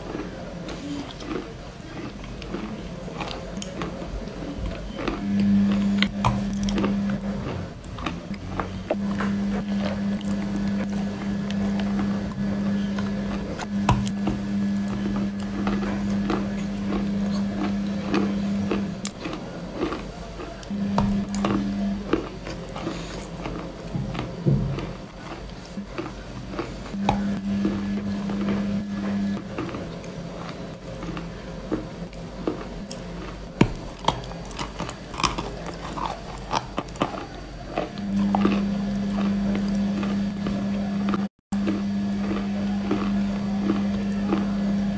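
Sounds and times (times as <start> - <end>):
crunching and chewing cookie: 0.0 - 44.9
low hum: 3.6 - 44.9.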